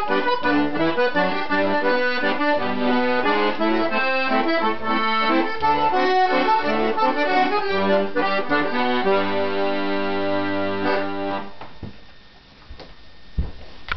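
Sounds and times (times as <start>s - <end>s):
two accordions playing: 0.0s - 11.6s.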